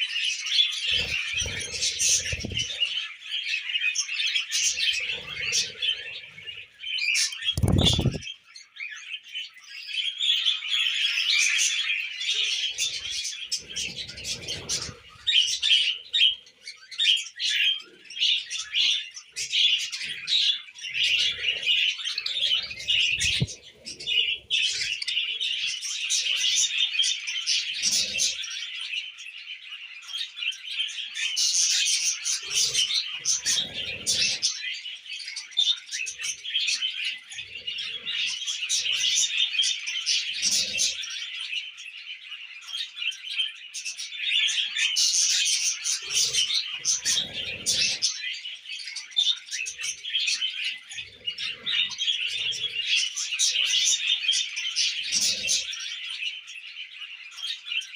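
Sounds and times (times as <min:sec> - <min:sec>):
budgerigars chattering: 0:00.0 - 0:09.2, 0:09.8 - 0:57.9.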